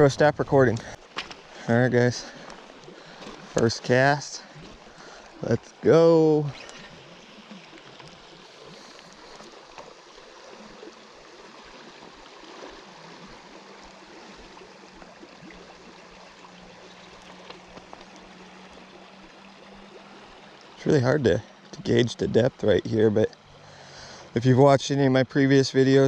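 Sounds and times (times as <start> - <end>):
river water rushing: 0.0 - 22.2, 22.8 - 24.7.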